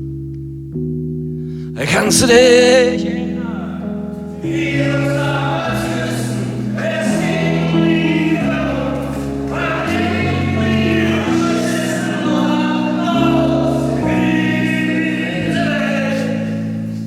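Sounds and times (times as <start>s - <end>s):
slow sustained band chords: 0.0s - 17.0s
voices singing: 1.8s - 17.0s.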